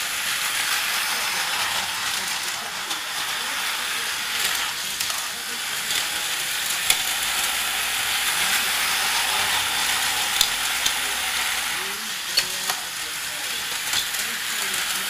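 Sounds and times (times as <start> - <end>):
plastic toy clicks and clacks: 0.6 - 11.6, 12.2 - 15.0.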